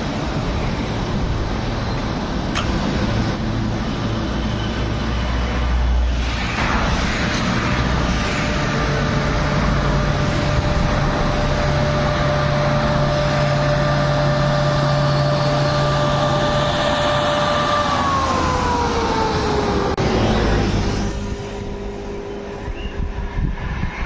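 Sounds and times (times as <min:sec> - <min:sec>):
train whine: 0:00.0 - 0:24.0
wheel and track noise: 0:00.0 - 0:24.0.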